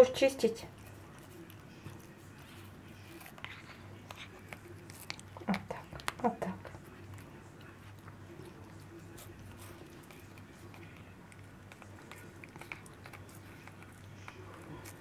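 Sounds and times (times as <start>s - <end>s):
faint low hum: 0.0s - 15.0s
cat chewing on toothbrush head: 0.5s - 15.0s.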